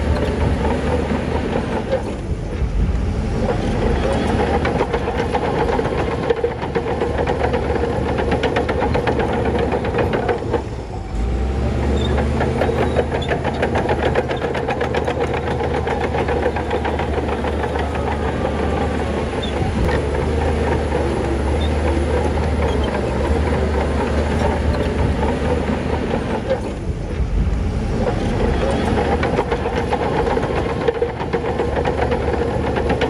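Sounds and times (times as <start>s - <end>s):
diesel earthmoving machinery running: 0.0s - 33.0s.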